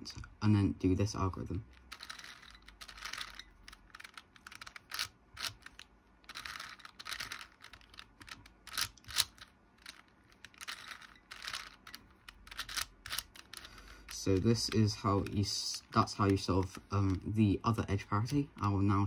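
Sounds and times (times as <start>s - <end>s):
puzzle cube layers turning: 1.6s - 19.0s
sharp plastic clicks: 1.7s - 17.3s.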